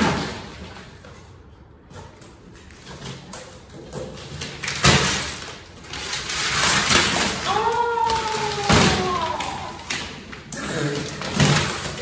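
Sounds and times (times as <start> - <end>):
rustling and handling noises: 0.5 - 12.0.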